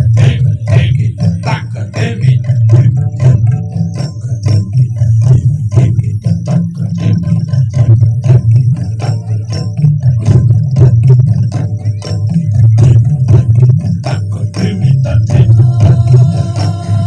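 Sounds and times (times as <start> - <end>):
percussive soundtrack music: 0.0 - 17.0.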